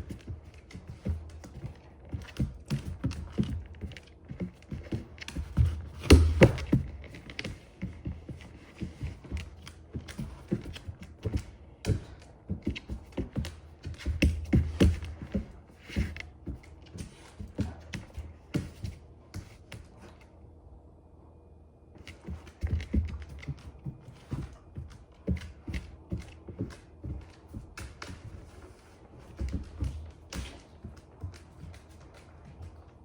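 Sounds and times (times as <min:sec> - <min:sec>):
dog claws clicking on hard floor: 0:00.0 - 0:20.3, 0:22.0 - 0:33.0.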